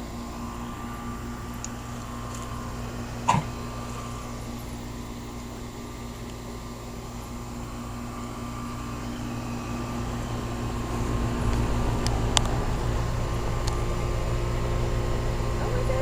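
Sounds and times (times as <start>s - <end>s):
air conditioner unit humming: 0.0s - 16.0s.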